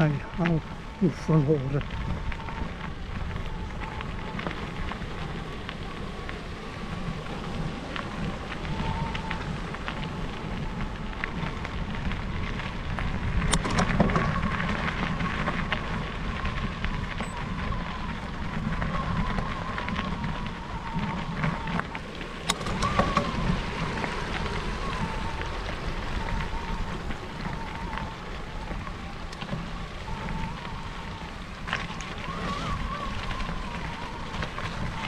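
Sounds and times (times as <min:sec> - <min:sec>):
tyres crackling on gravel: 0:00.0 - 0:35.0
wind on microphone: 0:00.0 - 0:35.0.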